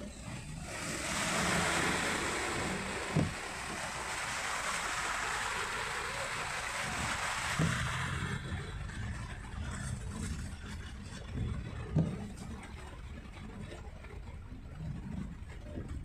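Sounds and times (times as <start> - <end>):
tyres spraying flood water: 0.0 - 16.0.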